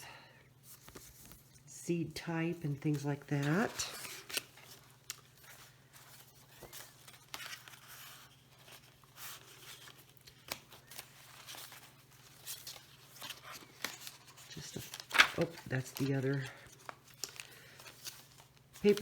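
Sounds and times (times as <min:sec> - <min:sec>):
paper rustling: 0:00.7 - 0:01.6, 0:02.9 - 0:19.0.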